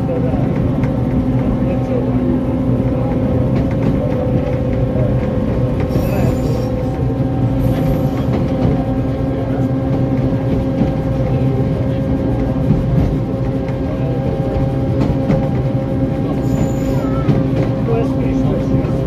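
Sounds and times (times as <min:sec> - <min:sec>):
locomotive engine drone: 0:00.0 - 0:19.0
wheels rumbling on rail: 0:00.0 - 0:19.0.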